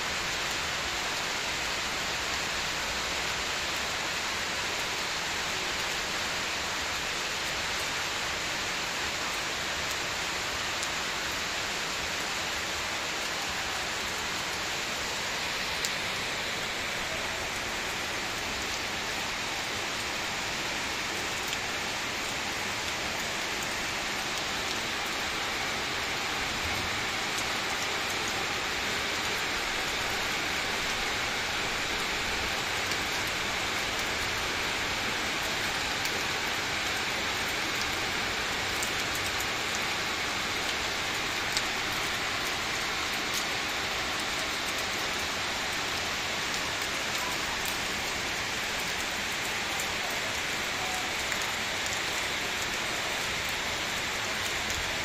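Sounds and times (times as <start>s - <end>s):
rain hissing on roofs: 0.0s - 55.0s.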